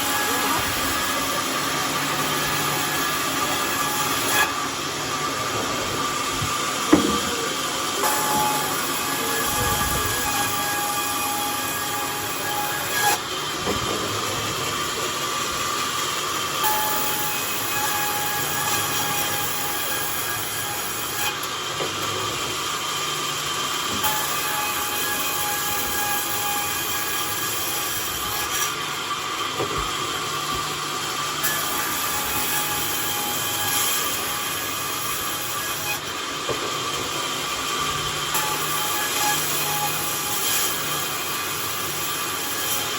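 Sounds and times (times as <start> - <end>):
sawmill blade cutting log: 0.0 - 42.9.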